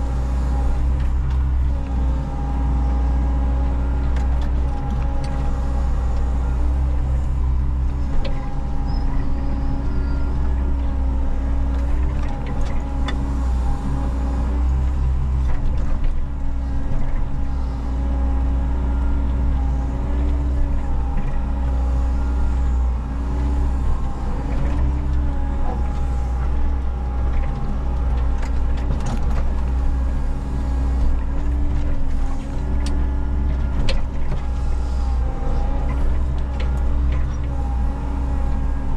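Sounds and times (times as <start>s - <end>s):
diesel engine deep hum: 0.0s - 38.9s.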